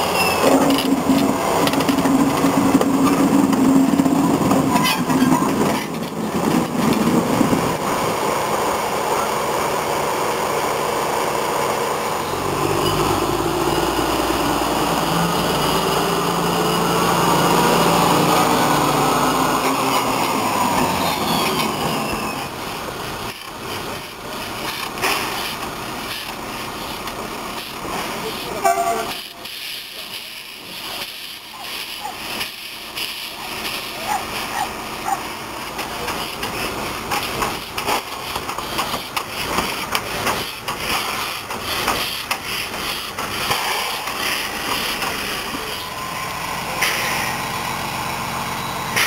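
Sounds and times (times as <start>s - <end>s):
diesel locomotive passing: 0.0s - 49.0s.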